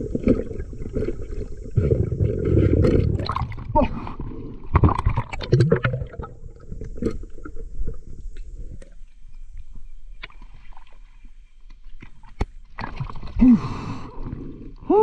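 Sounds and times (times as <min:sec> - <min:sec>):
water sloshing and gurgling: 0:00.0 - 0:14.9.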